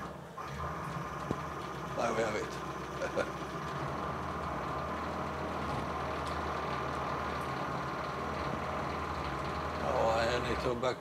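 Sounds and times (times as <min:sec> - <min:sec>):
milling machine axis buzzing: 0:00.0 - 0:11.0.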